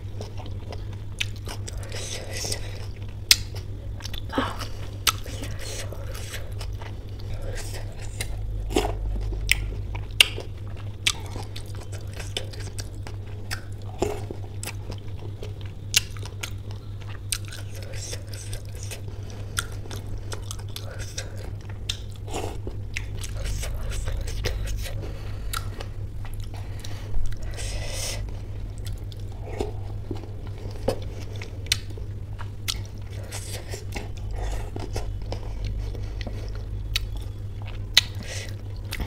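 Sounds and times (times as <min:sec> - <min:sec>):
low steady hum: 0:00.0 - 0:39.0
wet chewing mouth sounds: 0:00.1 - 0:39.0.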